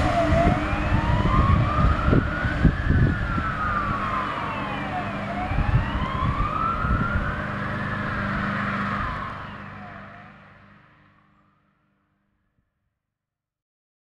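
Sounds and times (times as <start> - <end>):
low engine rumble: 0.0 - 11.4
fire engine siren wailing: 0.0 - 11.8.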